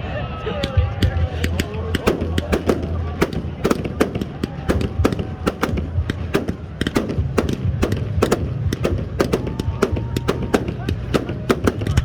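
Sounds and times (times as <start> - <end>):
fireworks bursting: 0.6 - 12.0.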